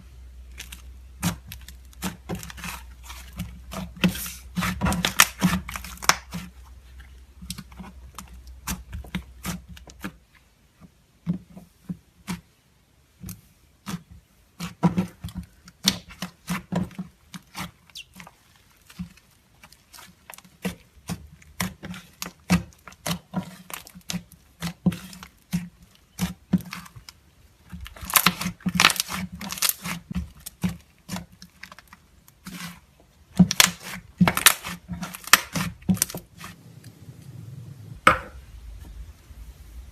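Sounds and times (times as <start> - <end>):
slime squished by hand: 0.5 - 10.4, 13.3 - 36.6.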